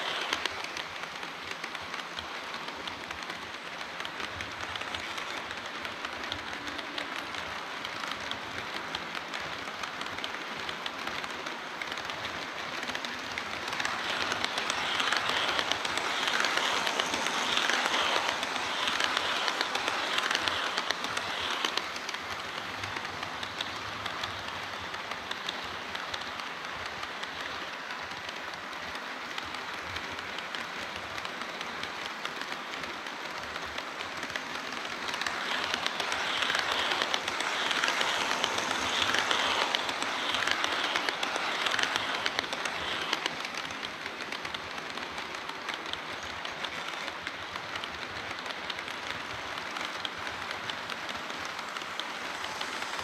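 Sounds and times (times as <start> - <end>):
model train wheels clicking on rail: 0.0 - 53.0.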